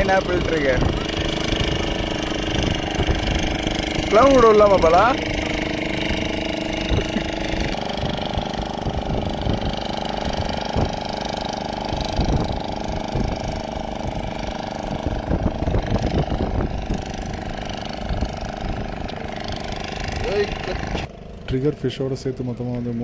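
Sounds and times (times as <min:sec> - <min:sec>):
engine running with fast throb: 0:00.0 - 0:23.0.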